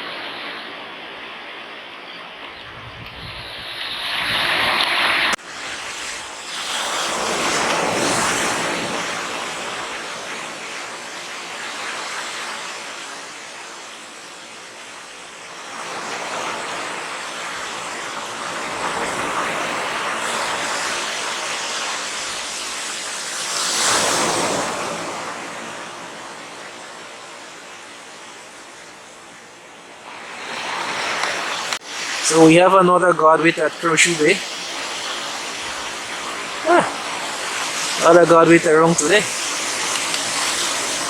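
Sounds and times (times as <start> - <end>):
waves washing onto shore: 0.0 - 41.0.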